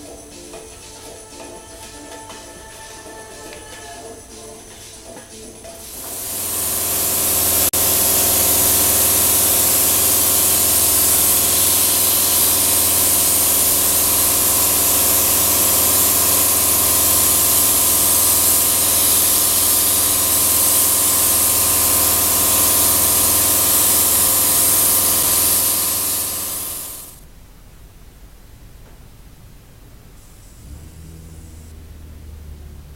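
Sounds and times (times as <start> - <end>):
paint spray gun hissing: 0.0 - 27.2
mechanical hum: 0.0 - 32.9.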